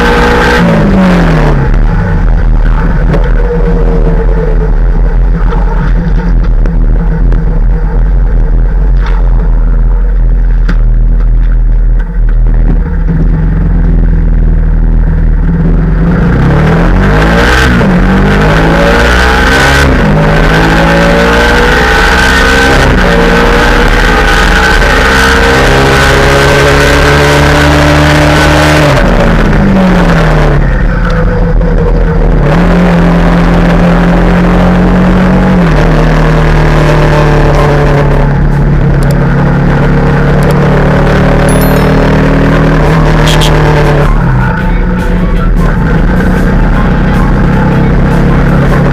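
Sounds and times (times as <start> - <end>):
motorcycle engine revving through gears: 0.0 - 48.9.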